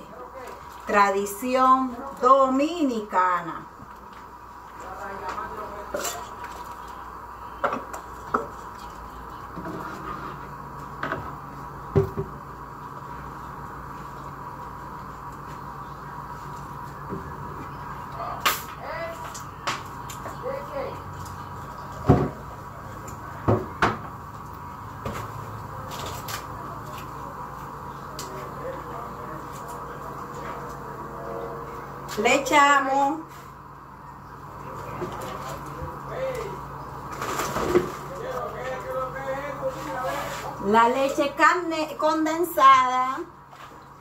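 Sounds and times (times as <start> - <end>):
low background hum: 0.0 - 44.0
steady background noise: 0.0 - 44.0.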